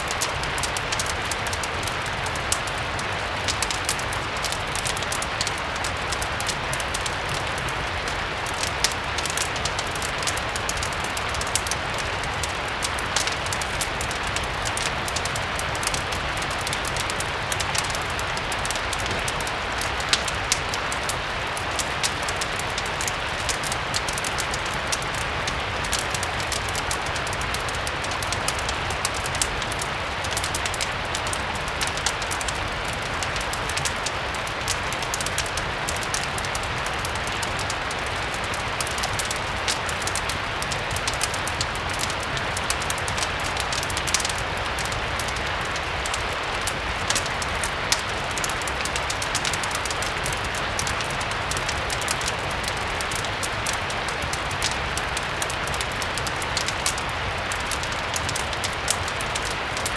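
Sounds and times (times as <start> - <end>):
rain hiss: 0.0 - 59.9
wood fire crackling: 0.0 - 59.9.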